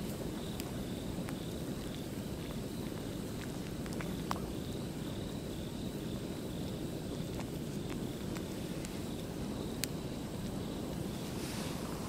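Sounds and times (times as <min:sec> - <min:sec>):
campfire crackling and popping: 0:00.0 - 0:12.0
insects chirping: 0:00.0 - 0:12.0.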